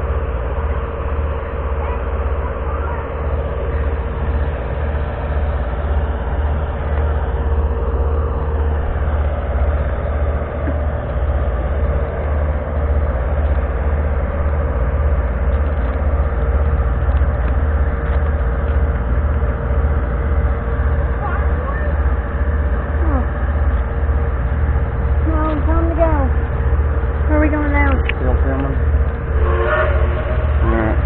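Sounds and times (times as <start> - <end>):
heavy engine idling: 0.0 - 31.0.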